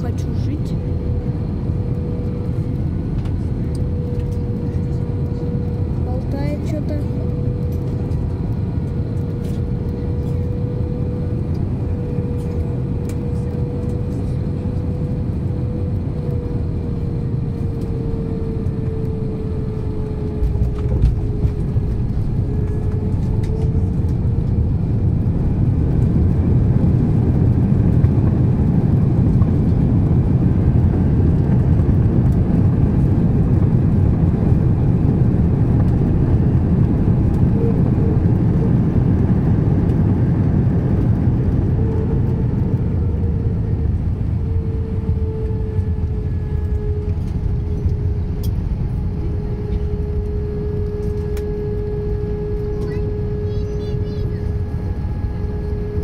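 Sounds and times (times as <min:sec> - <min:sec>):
jet engine whine: 0:00.0 - 0:56.0
low runway rumble: 0:00.0 - 0:56.0.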